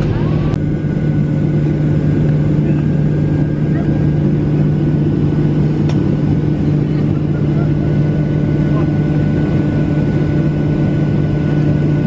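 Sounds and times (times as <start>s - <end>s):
jet engines humming and rumbling: 0.0s - 12.0s.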